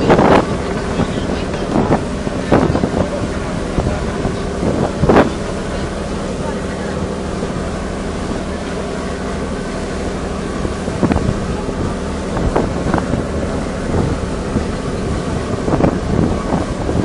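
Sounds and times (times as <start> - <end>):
ferry engine droning: 0.0 - 17.0
wind buffeting microphone: 0.0 - 17.0.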